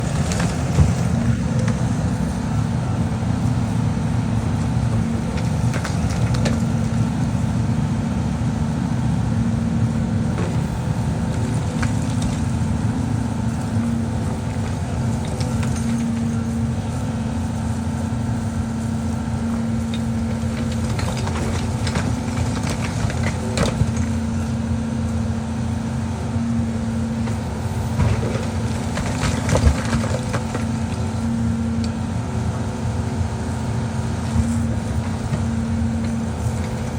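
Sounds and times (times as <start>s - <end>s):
diesel engine running under load: 0.0s - 36.9s.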